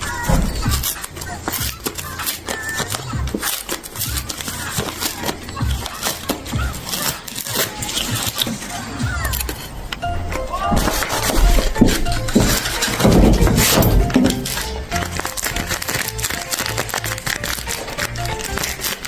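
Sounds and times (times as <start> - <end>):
packaging crinkling: 0.0 - 9.7, 10.7 - 19.0
background music: 0.0 - 19.0.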